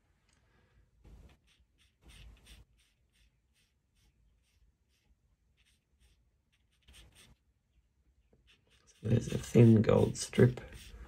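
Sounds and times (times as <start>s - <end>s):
pencil sketching on paper: 1.1s - 11.0s.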